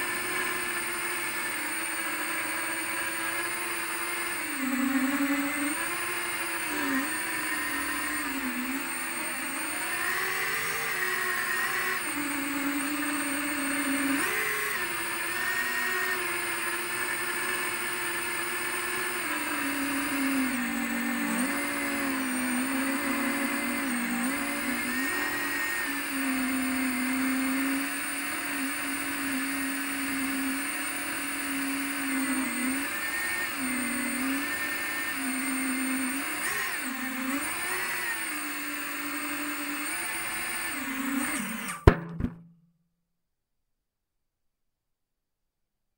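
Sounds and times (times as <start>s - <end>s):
quadcopter motors whining: 0.0s - 42.0s.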